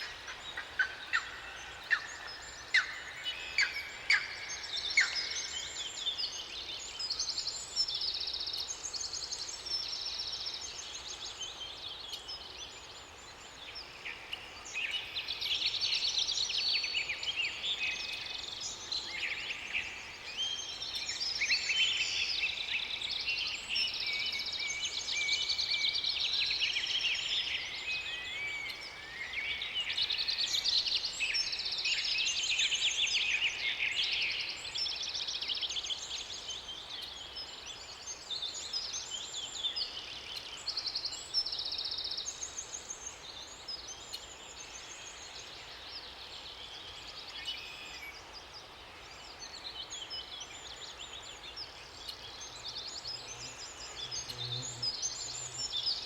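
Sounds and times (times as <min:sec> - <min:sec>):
faint steady hiss: 0:00.0 - 0:56.0
songbirds singing: 0:00.0 - 0:56.0.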